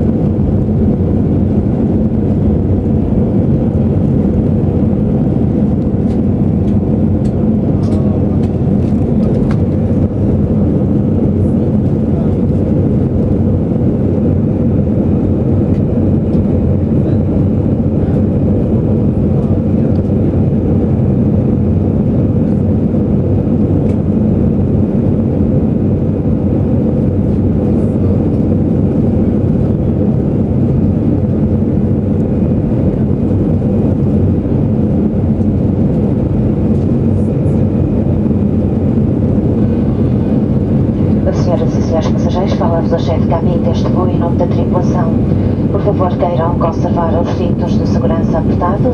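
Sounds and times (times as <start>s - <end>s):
jet engine cabin noise: 0.0s - 48.9s.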